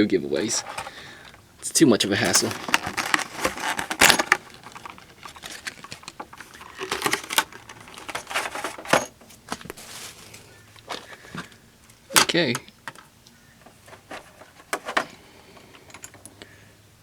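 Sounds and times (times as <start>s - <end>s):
plastic parts clicking and clattering: 0.4s - 1.4s, 2.0s - 16.5s.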